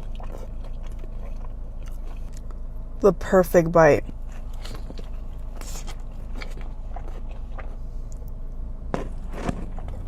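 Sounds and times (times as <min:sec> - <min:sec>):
close-miked chewing: 0:00.0 - 0:03.0, 0:04.0 - 0:10.0
steady low hum: 0:00.0 - 0:10.0.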